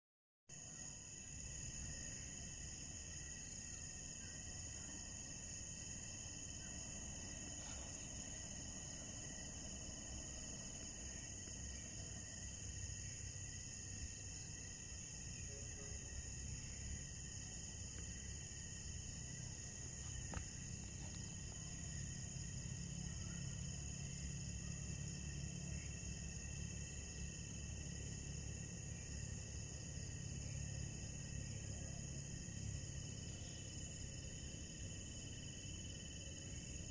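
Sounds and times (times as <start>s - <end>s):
insects trilling: 0.5s - 36.9s.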